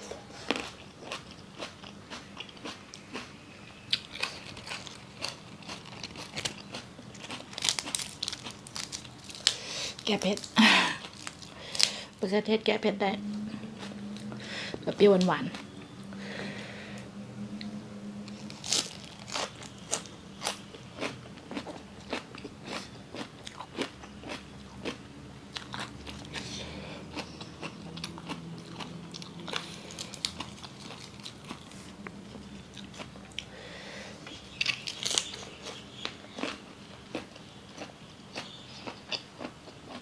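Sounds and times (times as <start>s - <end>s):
person crunching food: 0.3s - 12.2s, 18.3s - 33.5s, 34.5s - 40.0s.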